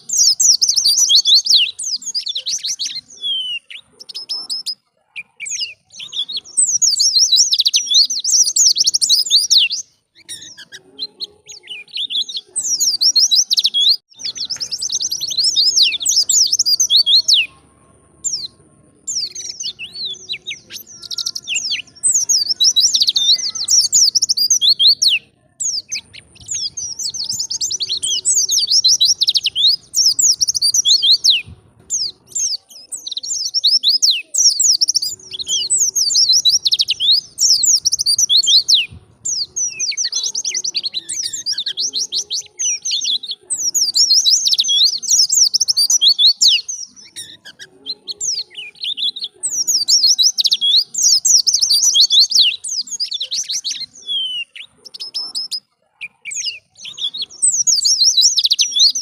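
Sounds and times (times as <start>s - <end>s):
white-eye bird twittering song: 0.0s - 59.0s.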